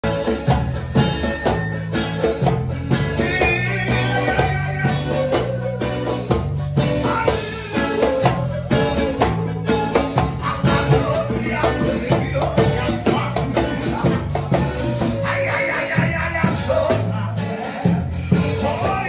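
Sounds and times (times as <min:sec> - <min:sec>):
steady beat: 0:00.0 - 0:16.9
voices singing: 0:00.0 - 0:19.0.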